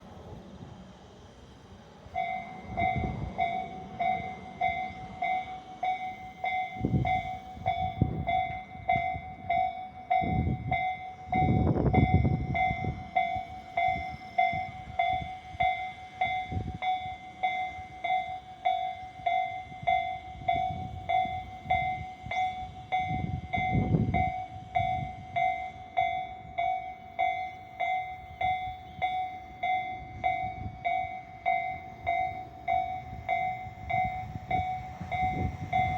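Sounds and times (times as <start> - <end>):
level crossing bell ringing: 2.2 - 35.9.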